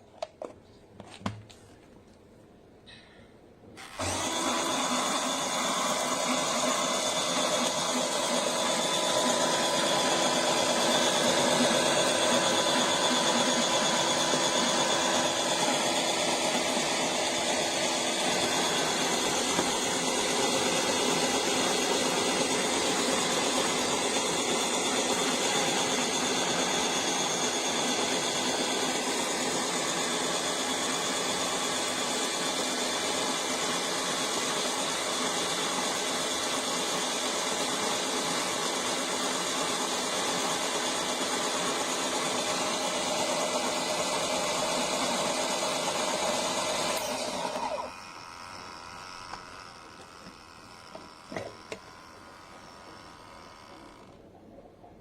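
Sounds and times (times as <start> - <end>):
coffee grinder motor running: 3.8 - 54.3.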